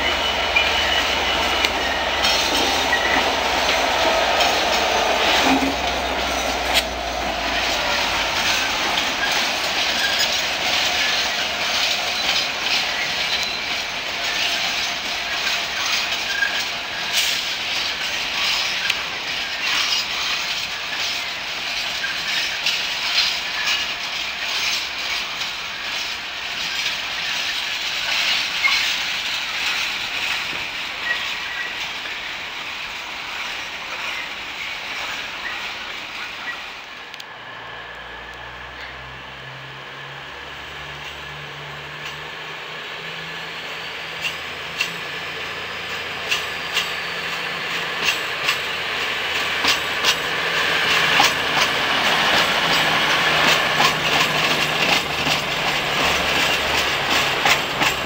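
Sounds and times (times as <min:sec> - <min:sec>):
wheels clacking over rail joints: 0:00.0 - 0:37.3, 0:38.2 - 0:58.0
diesel locomotive engine hum: 0:00.0 - 0:58.0
train wheels rumbling: 0:00.0 - 0:58.0.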